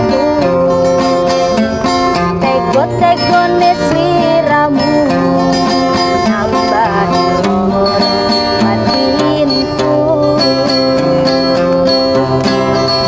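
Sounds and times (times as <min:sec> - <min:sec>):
strummed acoustic guitar: 0:00.0 - 0:13.0
woman singing: 0:02.1 - 0:13.0.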